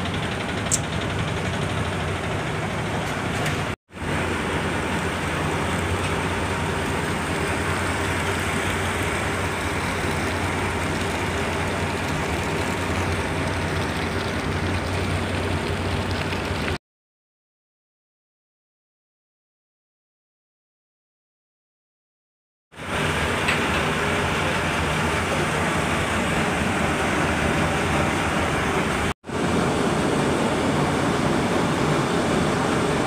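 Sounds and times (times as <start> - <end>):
ferry engine droning: 0.0 - 16.8, 22.8 - 33.0
water wash: 0.0 - 16.8, 22.8 - 33.0.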